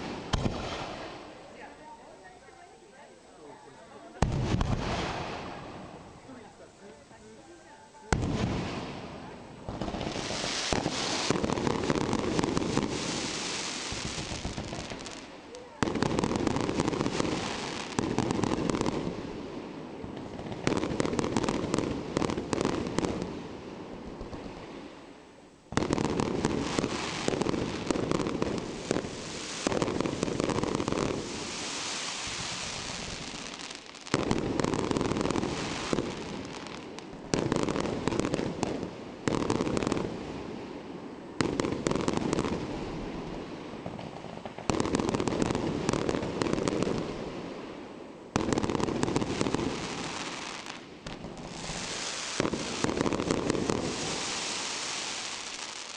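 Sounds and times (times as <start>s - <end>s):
fireworks booming: 0.0s - 2.1s, 4.1s - 6.4s, 7.7s - 55.9s
fireworks crackling: 0.0s - 55.9s.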